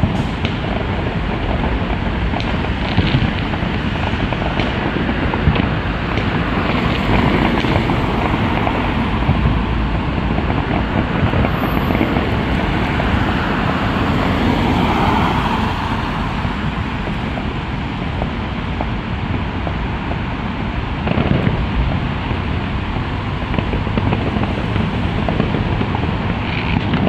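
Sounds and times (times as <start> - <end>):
distant fireworks popping and crackling: 0.0 - 27.0
wind rumble on microphone: 0.0 - 27.0.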